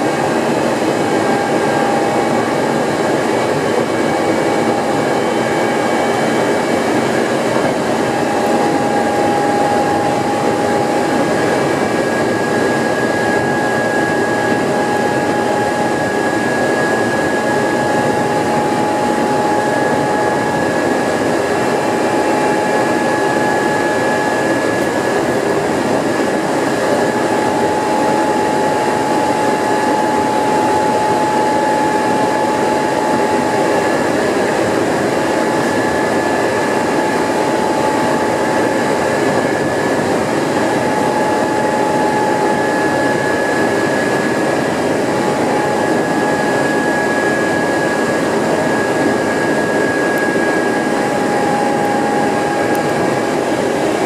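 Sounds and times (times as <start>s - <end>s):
high train whine: 0.0s - 54.0s.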